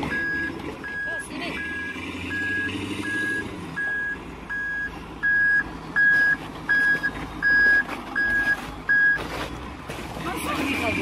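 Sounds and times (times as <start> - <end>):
reversing alarm beeping: 0.0 - 9.3
diesel engine running: 0.0 - 11.0.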